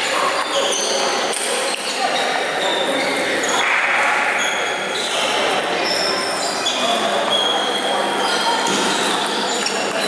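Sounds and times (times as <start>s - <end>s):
background chatter: 0.0s - 10.0s.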